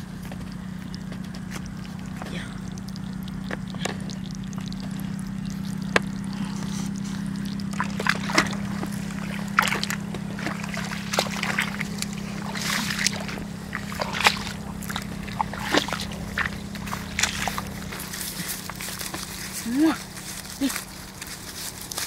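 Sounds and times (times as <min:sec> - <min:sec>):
feet splashing through shallow water: 0:00.0 - 0:22.0
steady low hum: 0:00.0 - 0:22.0.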